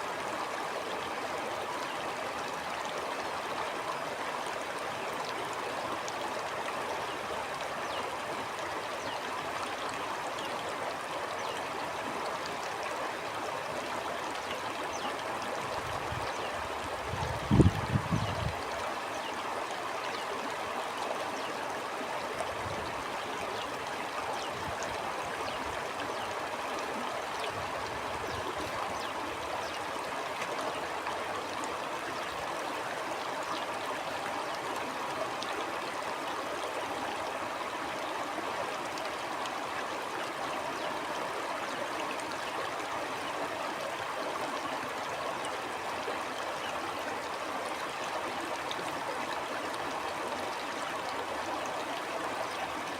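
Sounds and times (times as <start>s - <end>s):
running water stream: 0.0s - 52.9s.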